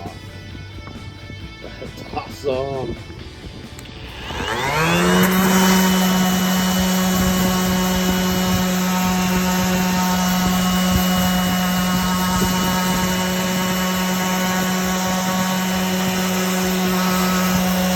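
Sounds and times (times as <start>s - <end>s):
orbital sander motor humming: 3.5s - 17.9s.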